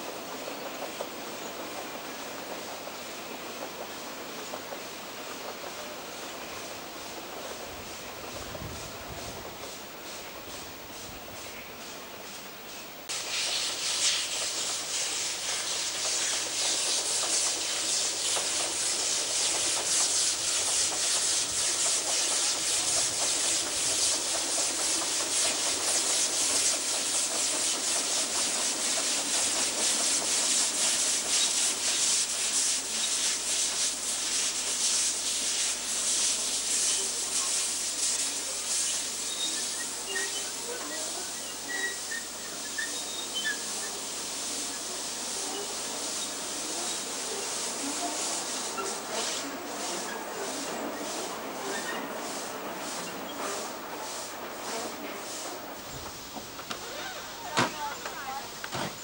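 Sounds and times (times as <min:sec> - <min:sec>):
steam locomotive exhaust hissing: 0:00.0 - 0:59.0.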